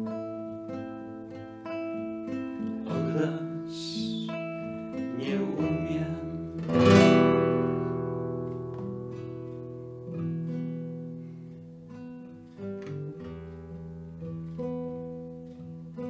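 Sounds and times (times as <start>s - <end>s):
classical guitar fingerstyle: 0.0s - 16.0s.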